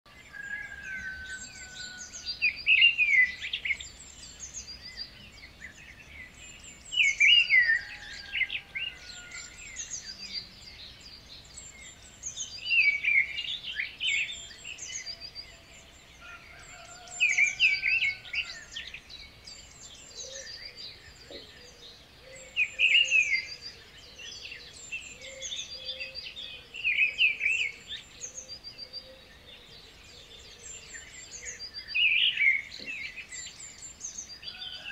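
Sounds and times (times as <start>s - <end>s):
bird singing loud song phrase: 0.1s - 34.9s
birds chirping: 0.1s - 34.9s.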